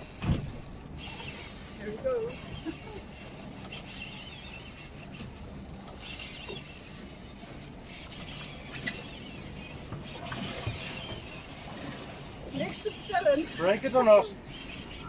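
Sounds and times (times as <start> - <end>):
sea noise: 0.0 - 15.0
wind: 0.0 - 15.0.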